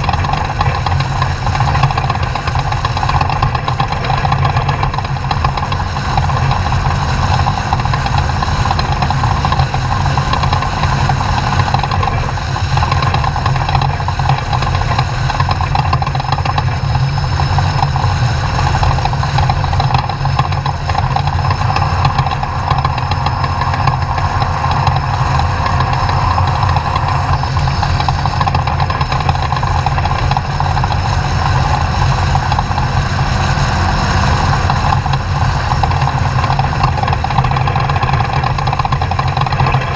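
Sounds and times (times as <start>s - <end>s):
truck engine running loudly: 0.0s - 39.9s.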